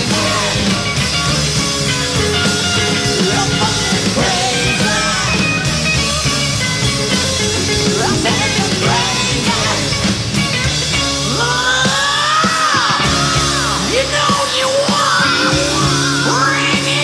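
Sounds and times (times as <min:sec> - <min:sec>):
acoustic rock band playing: 0:00.0 - 0:17.0.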